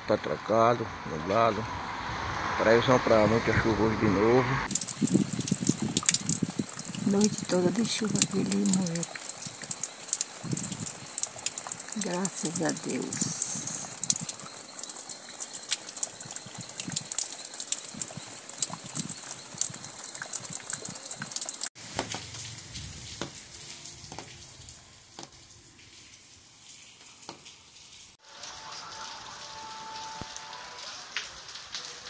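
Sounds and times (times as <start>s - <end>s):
rain dripping and pattering: 0.1s - 32.0s.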